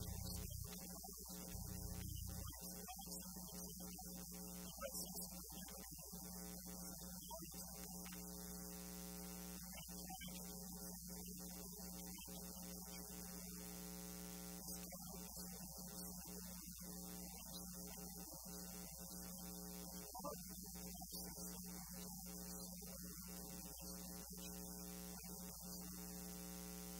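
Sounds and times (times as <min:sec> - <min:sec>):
faint electrical hum and buzz: 0:00.0 - 0:26.9.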